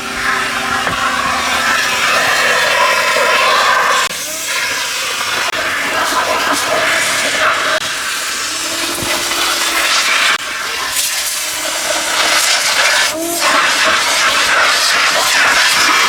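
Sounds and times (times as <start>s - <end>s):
cleaning equipment hissing: 0.0s - 16.0s.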